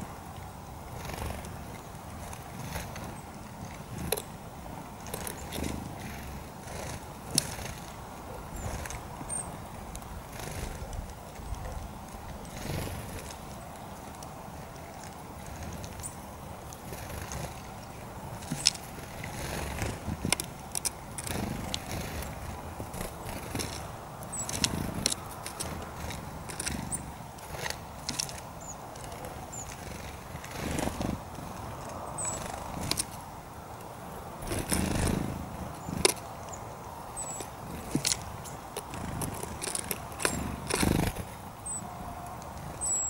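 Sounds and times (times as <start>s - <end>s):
bird pecking seeds on wood: 1.1s - 33.2s, 33.8s - 43.0s.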